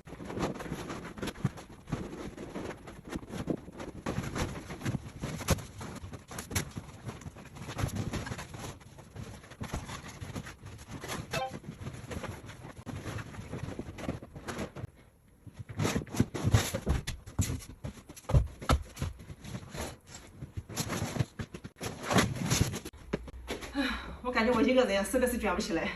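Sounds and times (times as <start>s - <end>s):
vinyl crinkling and scraping: 0.0s - 23.4s.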